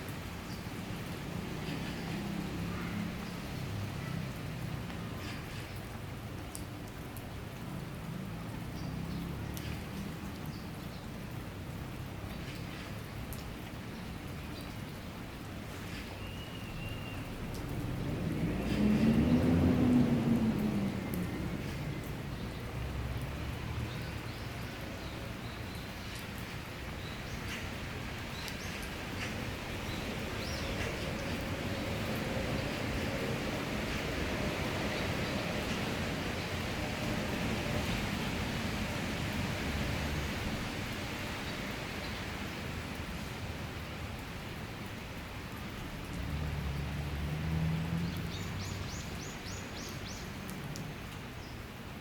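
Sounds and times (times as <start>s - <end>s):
sharp raindrops ticking: 0.0s - 52.0s
steady rain shower: 0.0s - 52.0s.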